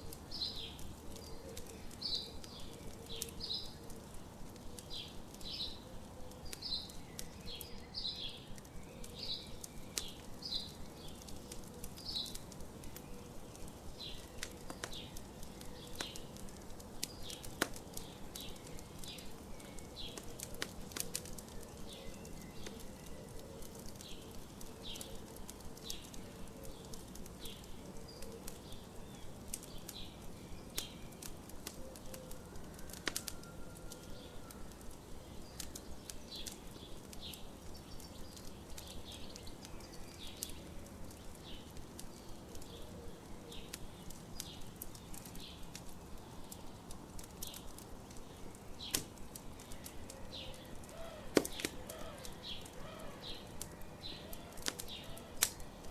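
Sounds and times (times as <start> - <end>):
birds chirping: 0.0 - 55.9
campfire crackling: 0.0 - 55.9.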